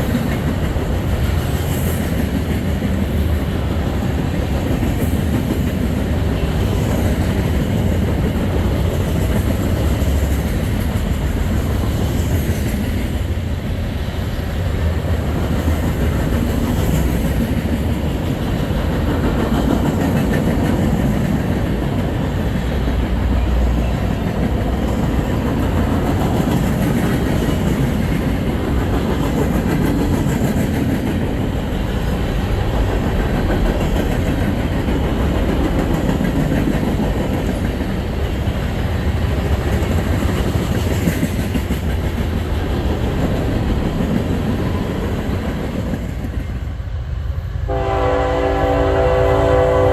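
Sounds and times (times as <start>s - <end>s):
freight train cars rolling past: 0.0s - 49.9s.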